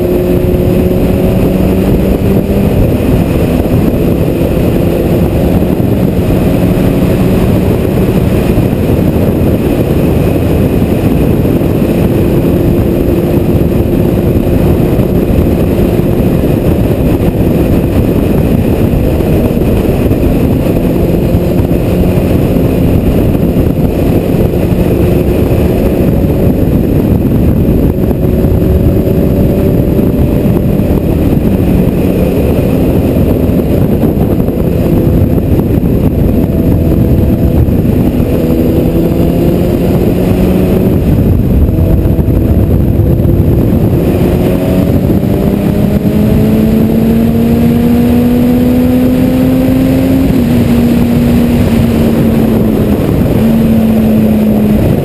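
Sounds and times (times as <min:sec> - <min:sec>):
loud wind roar: 0:00.0 - 0:55.0
motorcycle engine running: 0:00.0 - 0:55.0.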